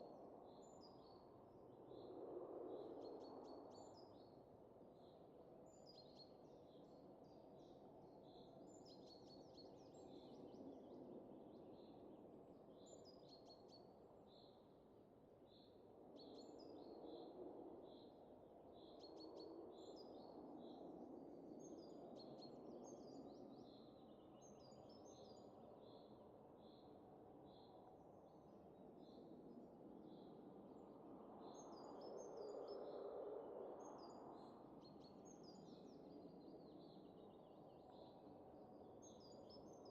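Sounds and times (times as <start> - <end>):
faint wind: 0.0 - 39.9.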